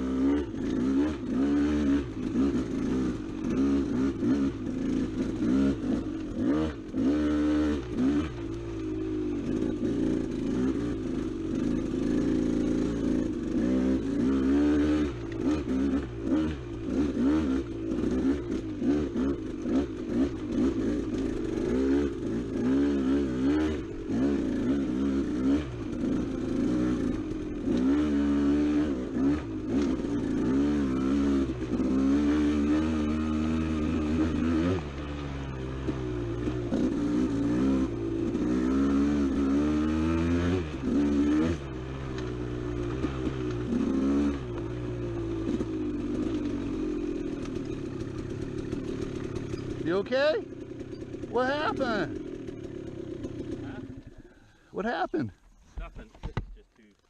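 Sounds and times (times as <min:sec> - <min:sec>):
dirt bike engine revving: 0:00.0 - 0:56.6.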